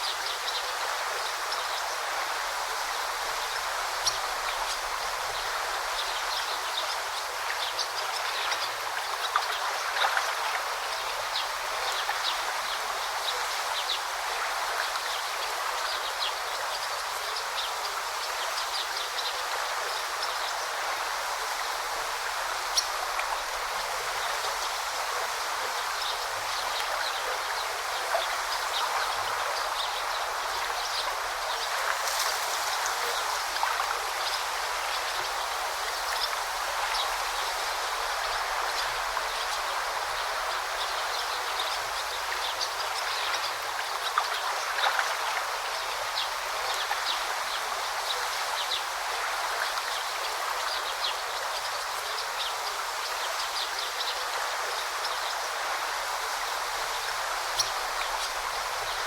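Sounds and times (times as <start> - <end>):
stream babbling over rocks: 0.0 - 59.0
water splashes and drips: 0.3 - 59.0.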